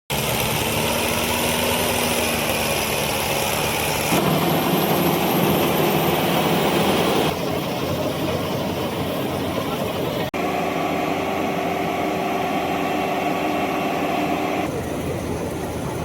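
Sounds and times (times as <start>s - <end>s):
combine harvester running: 0.1s - 16.0s.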